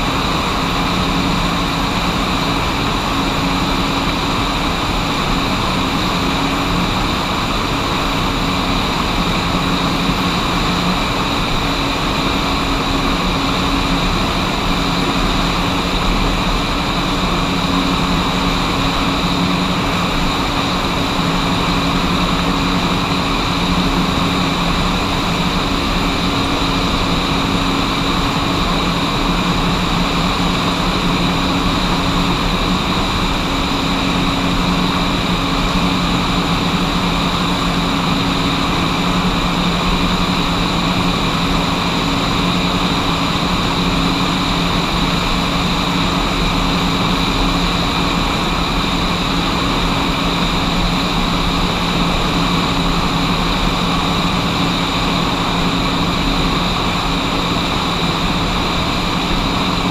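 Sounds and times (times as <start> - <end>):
combine harvester drone: 0.0 - 59.9
tractor engine: 0.0 - 59.9.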